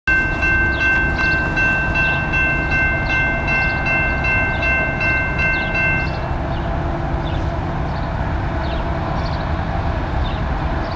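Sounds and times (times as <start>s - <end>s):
freight train cars rumbling past: 0.1s - 10.9s.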